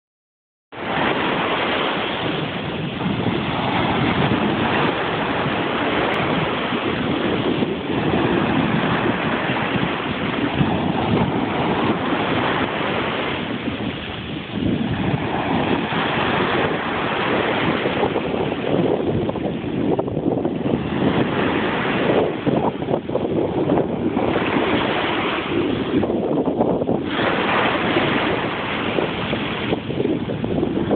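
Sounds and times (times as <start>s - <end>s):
sea waves washing: 0.8s - 30.9s
wind on microphone: 0.8s - 30.9s.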